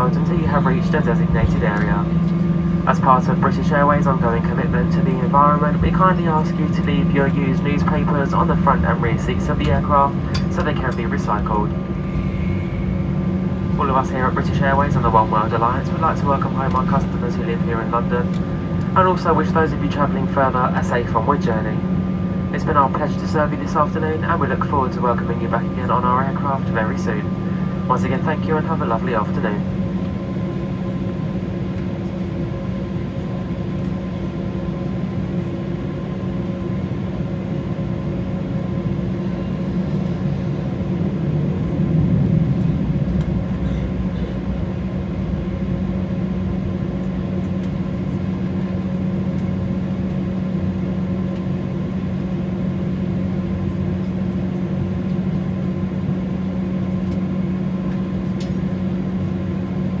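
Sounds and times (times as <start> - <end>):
engine and air system rush: 0.0 - 33.0, 36.7 - 60.0
aircraft cabin hum: 0.0 - 60.0.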